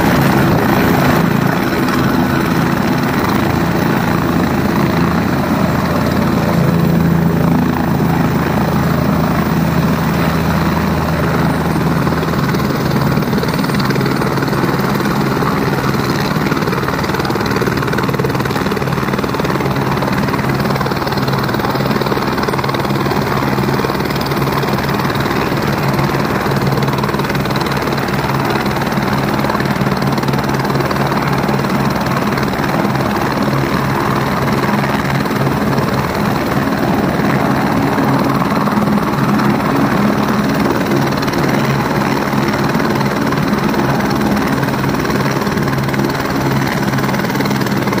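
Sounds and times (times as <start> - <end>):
helicopter engine and rotor: 0.0 - 48.0.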